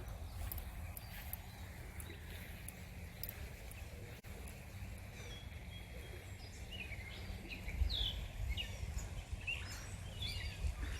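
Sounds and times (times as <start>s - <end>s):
songbirds chirping: 0.0s - 10.9s
steady low rumble: 0.0s - 10.9s.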